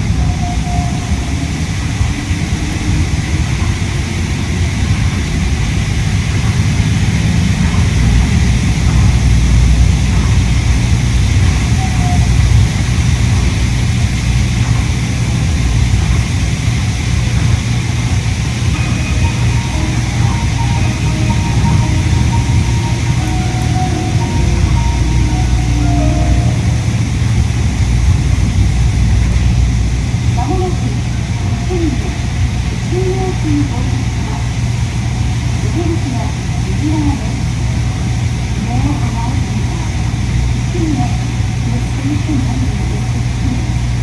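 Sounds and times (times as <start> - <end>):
monorail running gear rumble: 0.0 - 40.6.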